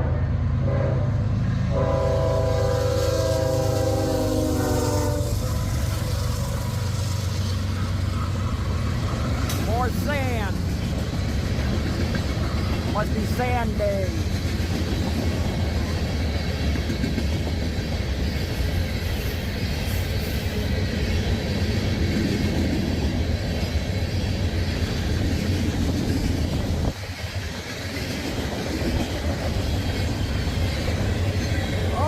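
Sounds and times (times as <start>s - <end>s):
freight train wheels rumbling on rail: 0.0s - 32.0s.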